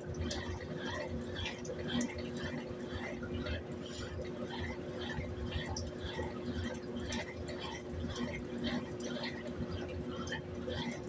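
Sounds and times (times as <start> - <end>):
washing machine motor hum: 0.0 - 11.0
water splashing in washing machine: 0.0 - 11.0.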